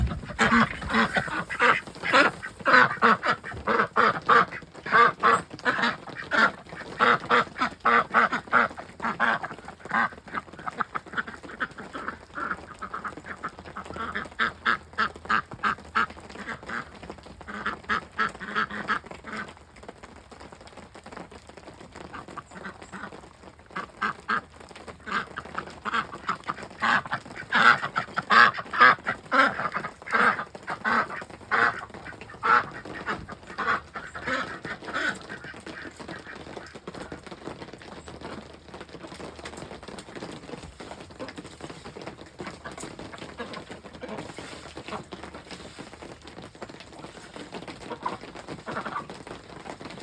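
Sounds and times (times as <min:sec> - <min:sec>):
ducks quacking: 0:00.0 - 0:19.5, 0:23.8 - 0:37.3, 0:40.7 - 0:49.4.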